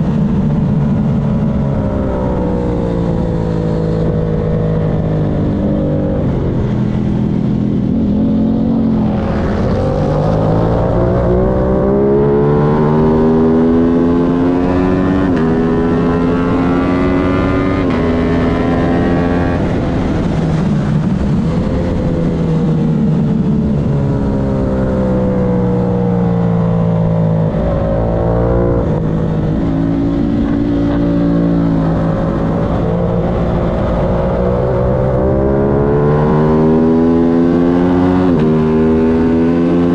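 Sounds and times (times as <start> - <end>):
racing motorcycle engine accelerating: 0.0 - 39.9.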